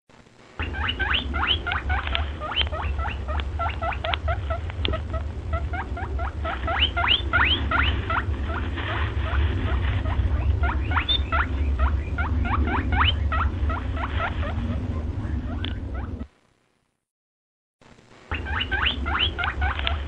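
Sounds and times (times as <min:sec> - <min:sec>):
steady low hum: 0:00.1 - 0:17.0, 0:17.8 - 0:20.0
small animal squeaking: 0:00.6 - 0:16.3, 0:18.3 - 0:20.0.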